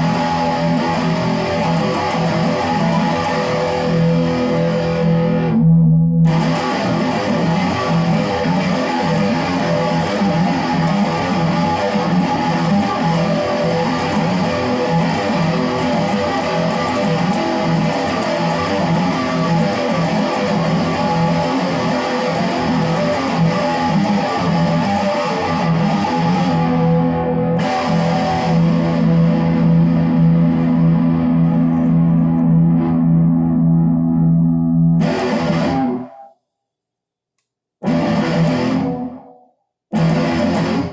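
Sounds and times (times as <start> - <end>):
guitar ringing notes: 0.0 - 36.4, 37.8 - 40.9.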